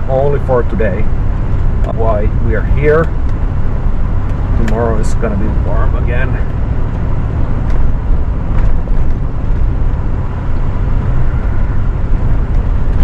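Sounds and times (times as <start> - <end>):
off-road vehicle engine rumble: 0.0 - 13.0.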